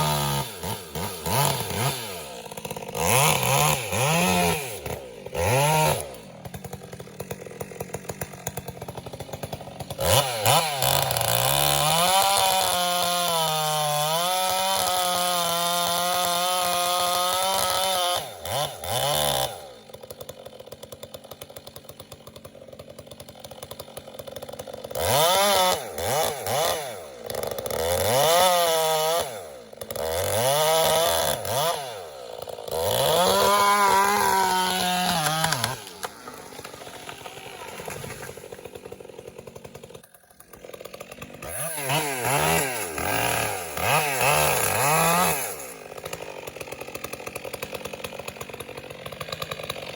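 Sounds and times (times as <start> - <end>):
two-stroke chainsaw revving: 0.0 - 49.9.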